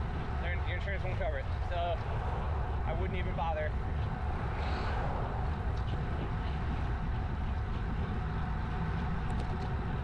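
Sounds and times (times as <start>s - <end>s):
road noise: 0.0s - 10.0s
wind buffeting microphone: 0.0s - 10.0s.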